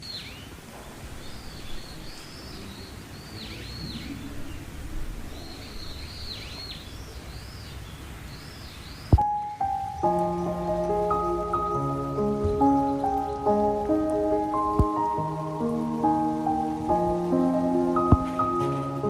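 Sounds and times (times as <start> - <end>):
birds calling with swooping notes: 0.0 - 19.0
low outdoor background noise: 0.0 - 19.0.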